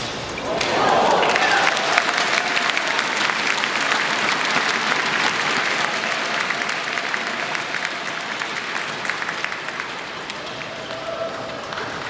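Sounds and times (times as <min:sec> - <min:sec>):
crowd applauding: 0:00.5 - 0:12.0.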